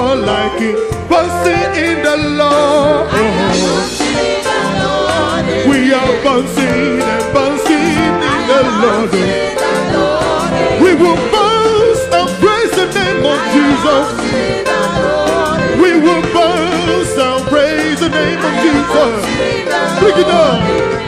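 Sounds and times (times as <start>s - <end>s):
band with drum kit: 0.0s - 21.0s.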